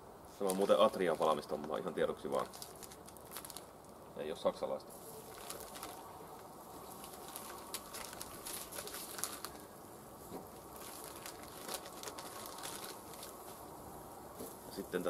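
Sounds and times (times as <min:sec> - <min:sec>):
plastic packaging crinkling: 0:00.4 - 0:04.0, 0:04.9 - 0:14.5.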